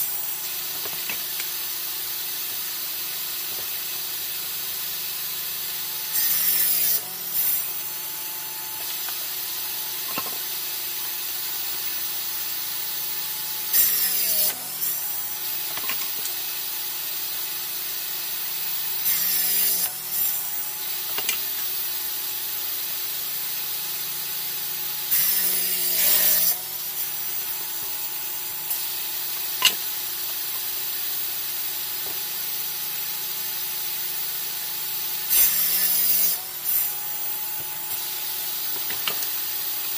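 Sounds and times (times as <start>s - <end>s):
saw cutting wooden boards: 0.0s - 39.9s
table saw whining: 0.0s - 39.9s.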